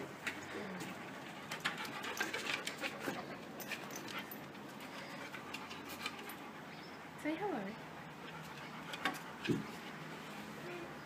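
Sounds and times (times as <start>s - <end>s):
dog panting: 0.8s - 10.2s.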